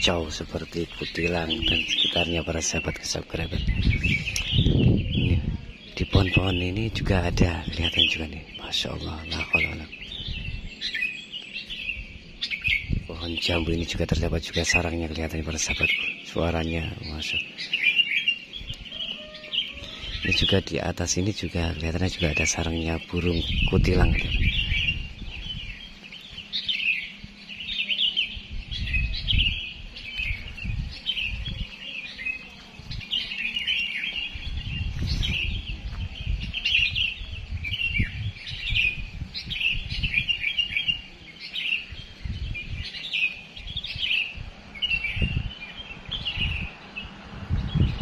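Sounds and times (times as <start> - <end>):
songbirds chirping: 0.0 - 48.0.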